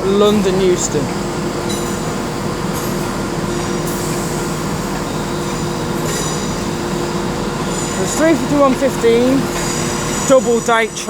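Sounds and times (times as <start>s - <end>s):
high-pitched whines: 0.0s - 11.0s
mechanical hum of standing trains: 0.0s - 11.0s.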